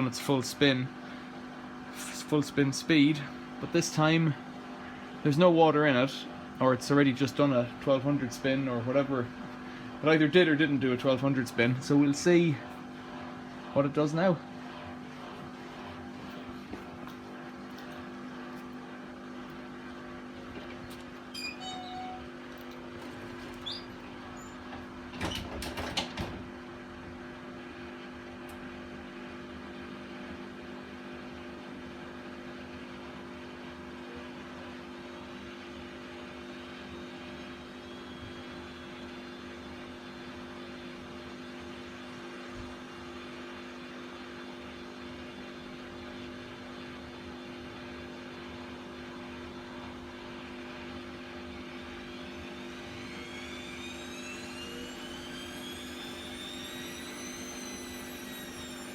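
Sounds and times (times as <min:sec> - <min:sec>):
washing machine humming: 0:00.0 - 0:58.9
drum motor whine rising: 0:02.0 - 0:25.4, 0:35.2 - 0:58.9.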